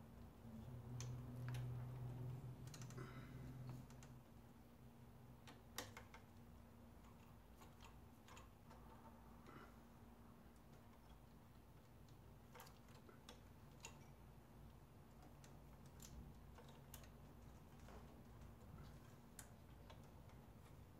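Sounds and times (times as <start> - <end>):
faint clicks of small parts: 0.2 - 4.4, 5.3 - 20.9.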